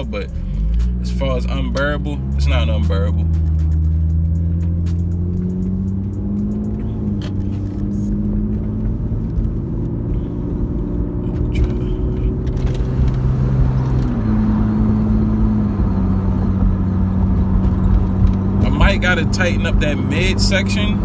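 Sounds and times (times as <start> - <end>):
engine and exhaust drone: 0.0 - 21.0
road rumble: 0.0 - 21.0.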